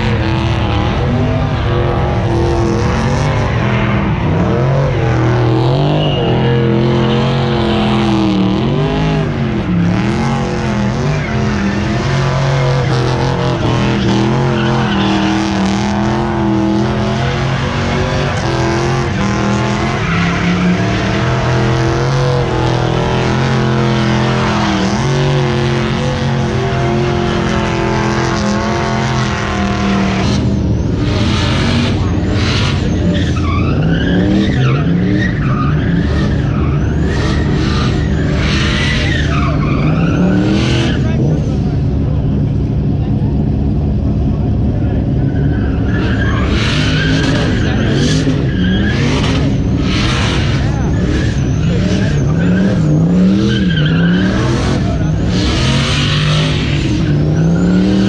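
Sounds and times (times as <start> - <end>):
spinning tyres squealing: 0.0 - 42.7, 43.4 - 58.0
car engine revving high: 0.0 - 58.0.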